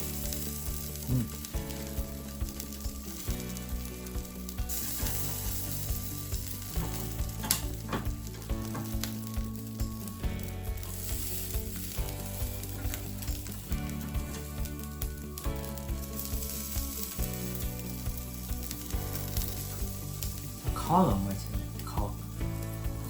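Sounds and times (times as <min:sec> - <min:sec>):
fish sizzling on grill: 0:00.0 - 0:23.0.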